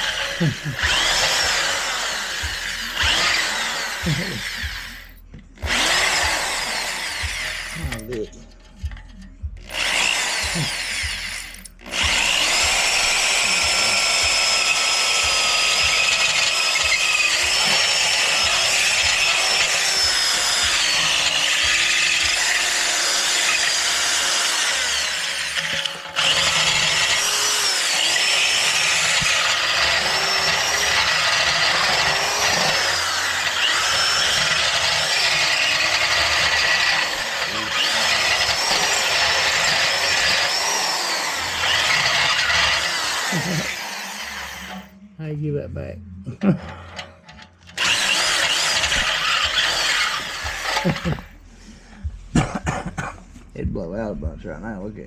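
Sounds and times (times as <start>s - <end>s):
electric drill grinding metal: 0.0s - 45.1s, 46.5s - 51.4s.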